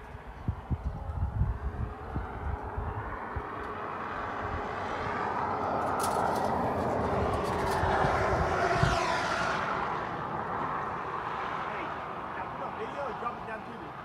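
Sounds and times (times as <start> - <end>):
vehicle approaching: 0.0 - 14.0.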